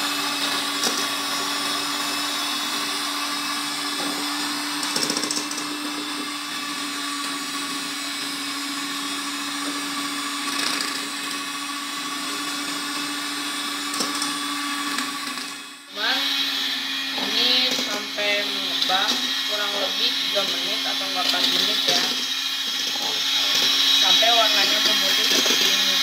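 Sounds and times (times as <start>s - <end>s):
electric hand mixer whisking: 0.0s - 26.0s.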